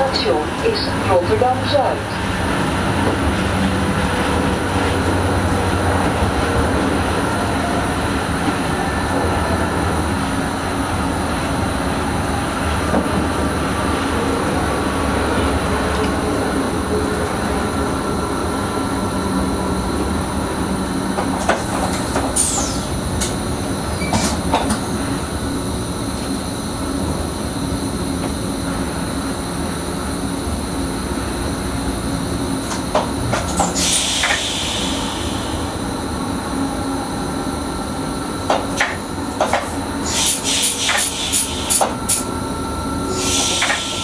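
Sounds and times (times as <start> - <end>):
wheels rumbling on rails: 0.0 - 44.0.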